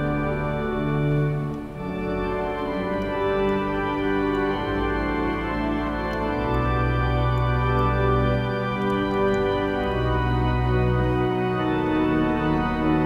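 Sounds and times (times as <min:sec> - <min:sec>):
deep bass organ notes: 0:00.0 - 0:13.0
organ playing a slow hymn: 0:00.0 - 0:13.0.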